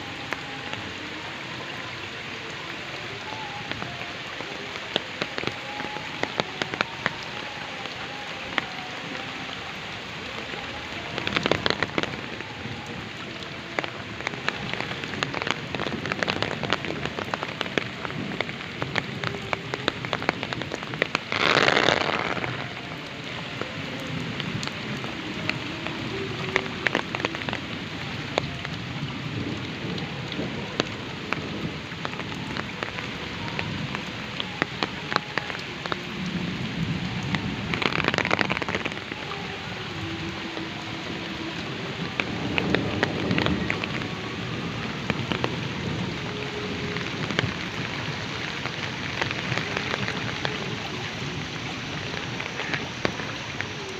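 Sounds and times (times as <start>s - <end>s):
heavy rain: 0.0s - 53.9s
raindrops ticking: 0.0s - 53.9s.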